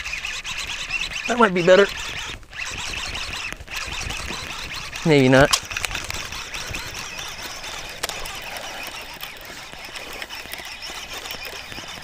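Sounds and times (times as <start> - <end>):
fishing reel whir with ticking: 0.0 - 12.0
sharp reel click: 0.0 - 12.0.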